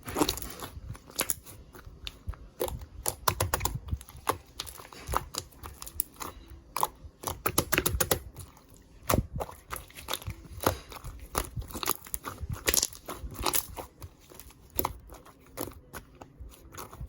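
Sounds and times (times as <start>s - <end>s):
slime squished by hand: 0.0s - 17.0s.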